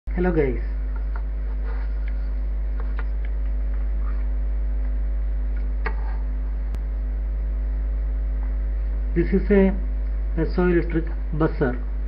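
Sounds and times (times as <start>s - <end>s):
electrical mains hum: 0.1s - 12.0s.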